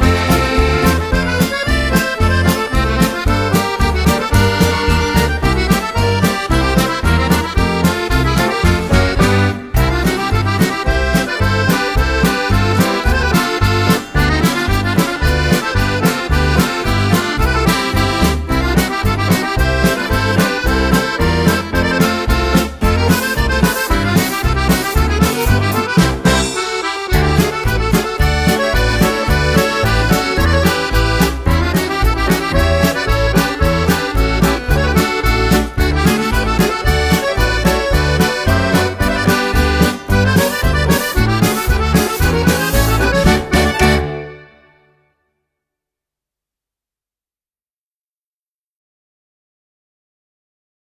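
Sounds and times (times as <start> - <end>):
accordion playing a polka: 0.0 - 45.0.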